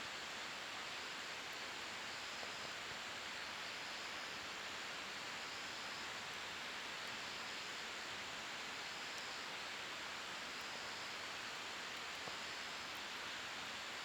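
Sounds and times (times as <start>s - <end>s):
campfire hissing and crackling: 0.2s - 14.0s.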